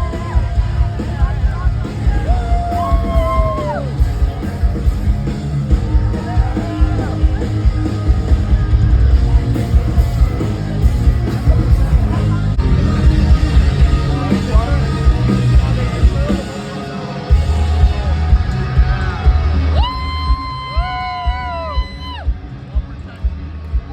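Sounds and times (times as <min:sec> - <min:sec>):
heavy drums: 0:00.0 - 0:23.9
live rock band playing: 0:00.0 - 0:23.9.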